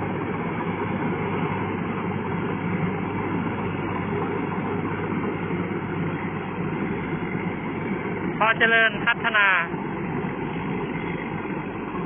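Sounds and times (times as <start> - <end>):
tiller engine running under load: 0.0 - 12.0.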